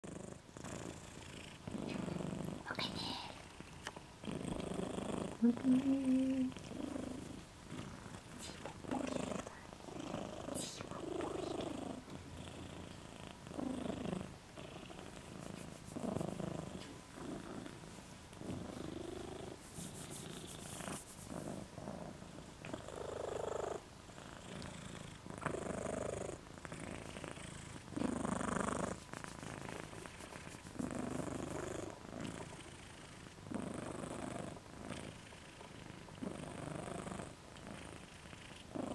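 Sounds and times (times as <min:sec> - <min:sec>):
pet snoring: 0:00.0 - 0:03.6, 0:04.2 - 0:38.9.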